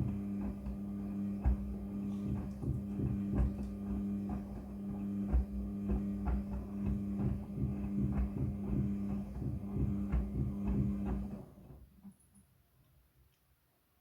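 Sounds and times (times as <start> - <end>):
washing machine motor hum: 0.0 - 11.9.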